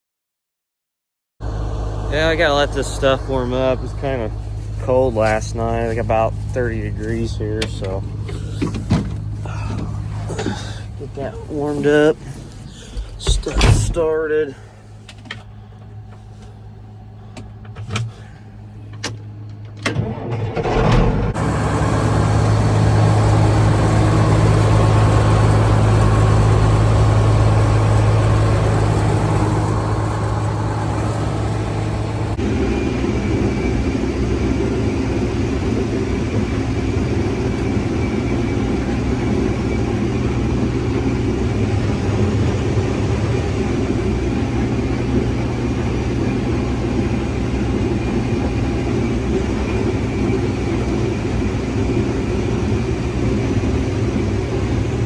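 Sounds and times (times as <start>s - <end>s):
diesel engine idling: 1.4s - 19.5s, 21.3s - 55.0s
higher engine hum: 1.4s - 55.0s.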